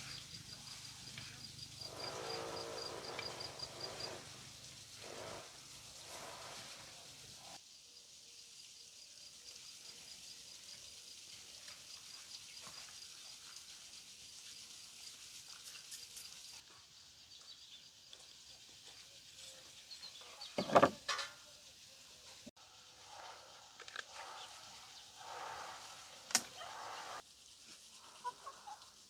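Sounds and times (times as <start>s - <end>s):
rural outdoor ambience: 0.0s - 29.0s.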